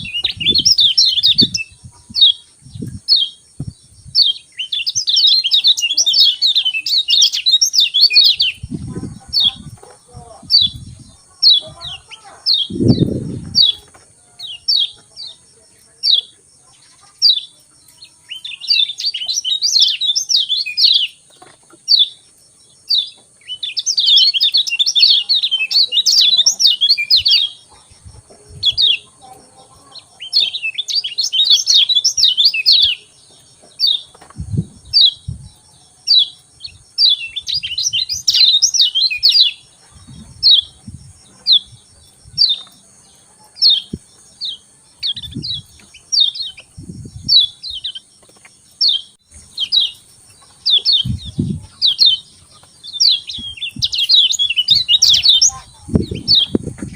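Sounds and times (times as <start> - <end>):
bird chirping: 0.0 - 56.9
bird twittering song: 0.0 - 56.9.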